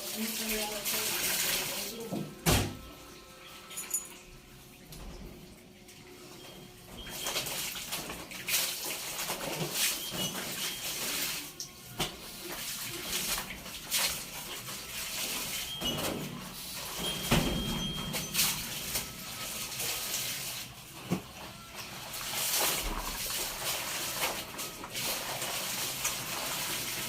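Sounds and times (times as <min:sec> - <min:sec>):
hand washing laundry in water: 0:00.0 - 0:27.0.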